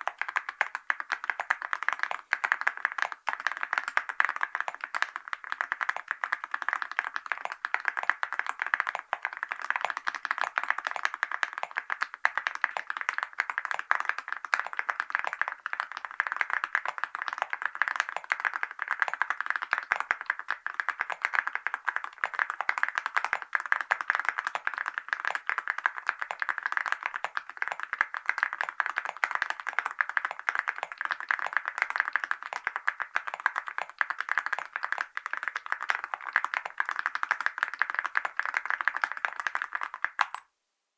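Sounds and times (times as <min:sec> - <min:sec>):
fast typing on mechanical keyboard: 0:00.0 - 0:40.4.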